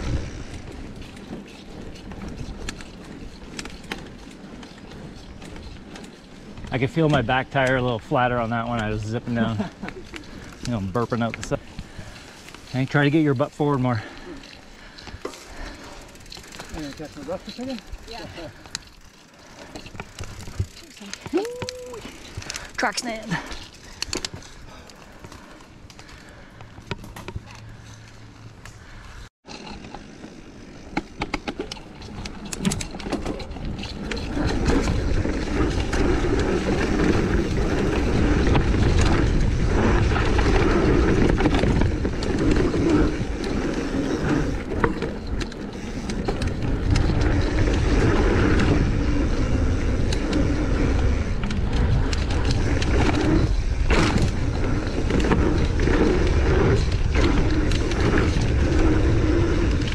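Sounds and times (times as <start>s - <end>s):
bike tyres rumbling on dirt trail: 0.0s - 59.9s.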